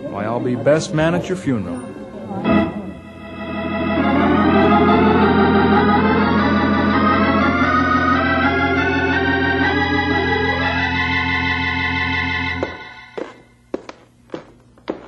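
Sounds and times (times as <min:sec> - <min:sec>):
sustained organ chords: 0:00.0 - 0:15.0.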